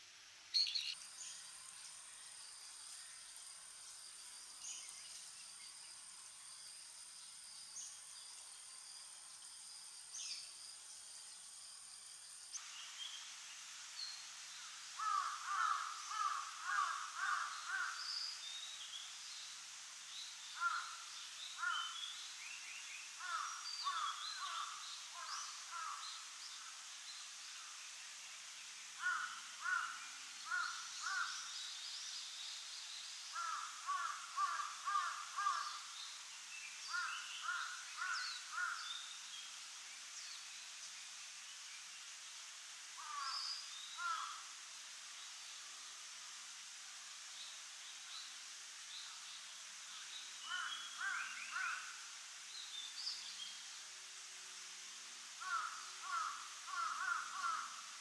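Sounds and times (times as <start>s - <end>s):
faint high chirps of small birds: 0.0s - 58.0s.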